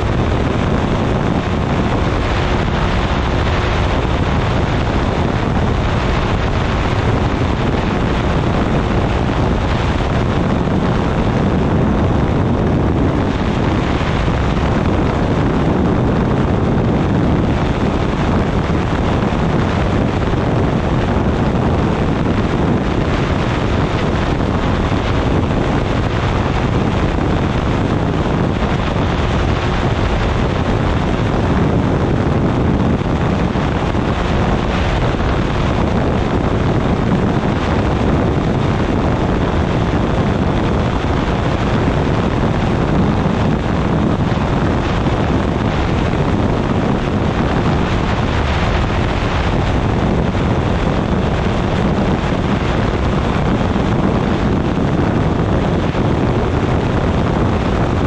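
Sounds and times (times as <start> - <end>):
engine and propeller drone: 0.0 - 58.0
wind rushing over microphone: 0.0 - 58.0.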